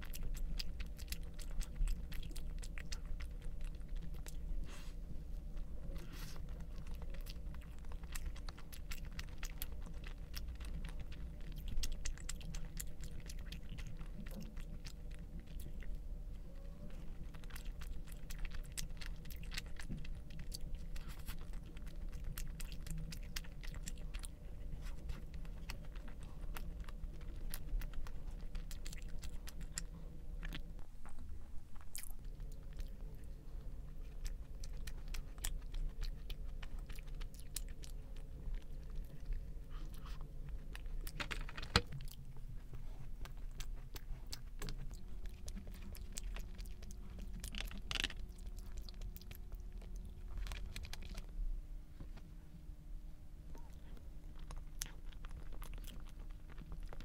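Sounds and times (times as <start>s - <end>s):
person chewing: 0.0s - 51.4s, 53.5s - 57.0s.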